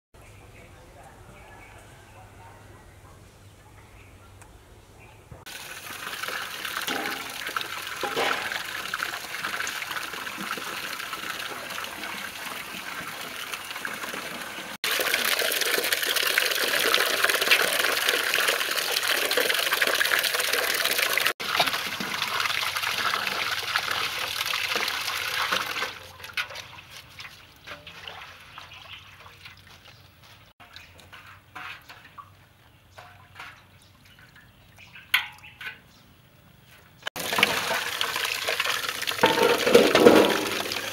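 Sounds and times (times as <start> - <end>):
water splashing in a metal basin: 5.5 - 30.0, 30.6 - 35.8, 37.1 - 40.9.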